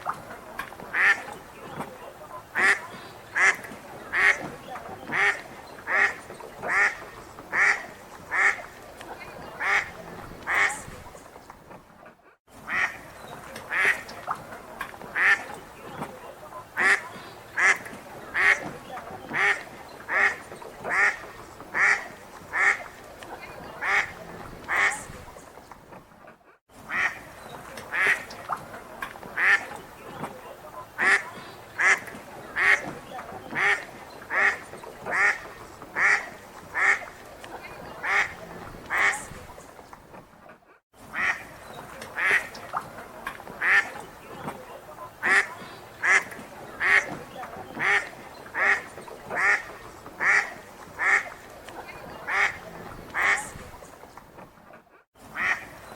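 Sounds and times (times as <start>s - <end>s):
ducks quacking: 0.0s - 11.3s, 12.2s - 25.7s, 26.8s - 39.7s, 41.0s - 54.2s, 55.2s - 55.9s
faint outdoor background: 0.0s - 55.9s.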